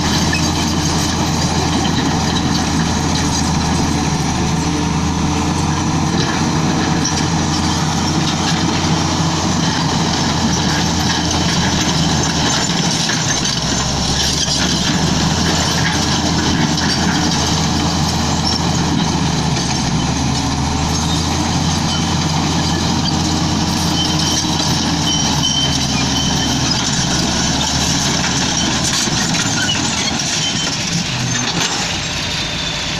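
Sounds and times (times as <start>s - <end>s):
bulldozer diesel engine running: 0.0s - 32.9s.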